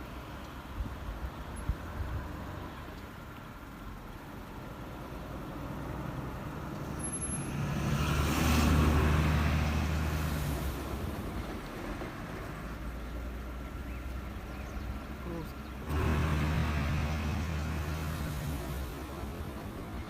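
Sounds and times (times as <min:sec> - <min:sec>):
heavy vehicle engine hum: 0:00.0 - 0:20.0.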